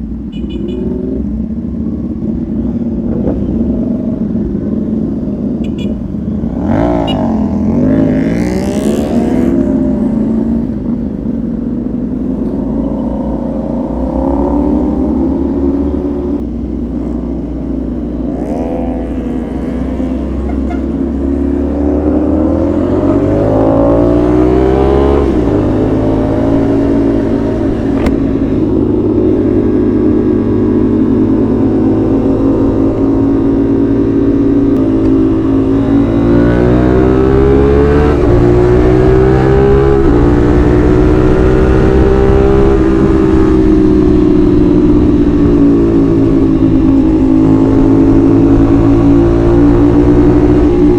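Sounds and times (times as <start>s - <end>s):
motorcycle engine revving: 0.3s - 50.9s.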